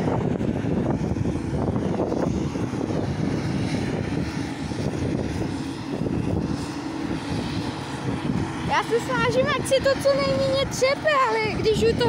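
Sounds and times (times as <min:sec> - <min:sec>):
farm machinery engine rumbling: 0:00.0 - 0:12.0.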